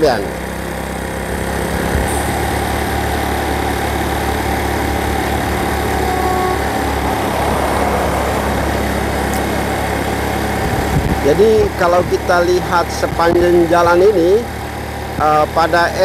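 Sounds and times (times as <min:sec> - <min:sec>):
road noise: 0:00.0 - 0:16.0
vehicle engine humming: 0:00.0 - 0:16.0.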